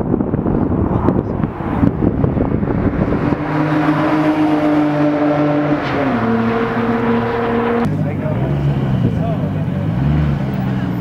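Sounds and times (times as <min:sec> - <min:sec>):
car engine passing at speed: 0:00.0 - 0:11.0.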